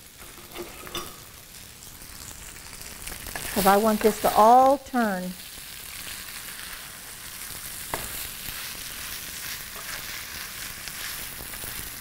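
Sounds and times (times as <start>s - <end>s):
spaghetti sizzling in a skillet: 0.0s - 12.0s.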